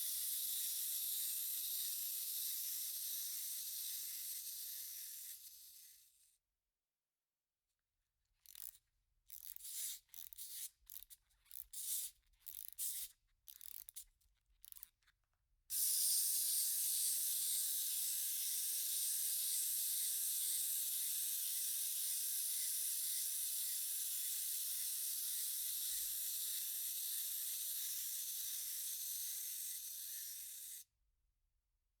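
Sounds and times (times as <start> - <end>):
wind-up toy noisy bursts: 0.0 - 6.0, 9.4 - 14.0, 15.7 - 30.8.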